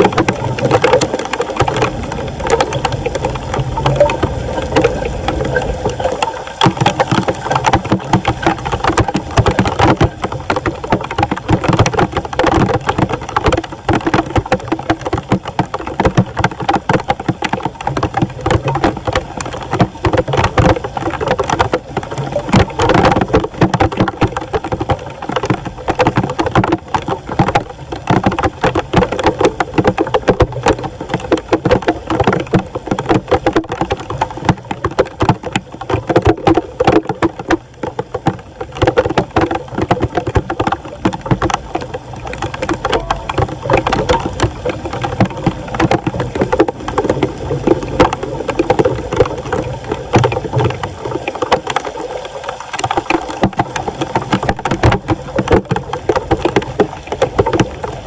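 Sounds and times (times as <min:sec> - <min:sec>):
small irregular knocks: 0:00.0 - 0:58.0
water splashing around drain: 0:00.0 - 0:58.0.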